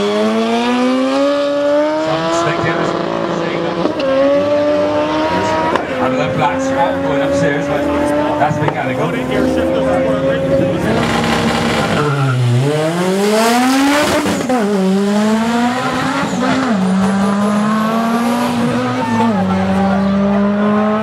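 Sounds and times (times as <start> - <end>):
racing car engine revving: 0.0 - 21.0.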